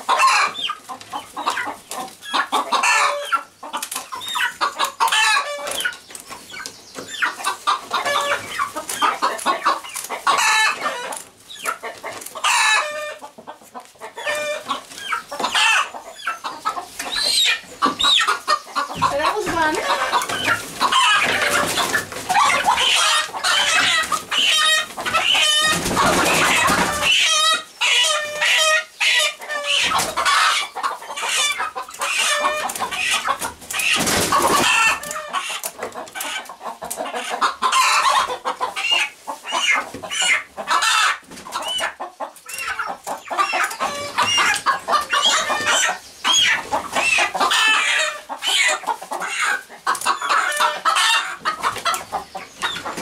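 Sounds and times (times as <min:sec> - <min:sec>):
young chickens clucking and squawking: 0:00.0 - 0:53.0.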